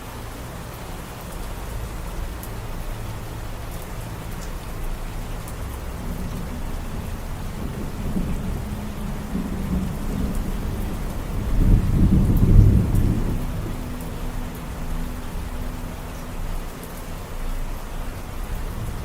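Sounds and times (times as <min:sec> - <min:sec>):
steady rain falling: 0:00.0 - 0:19.0
low rumble of thunder: 0:00.3 - 0:19.0.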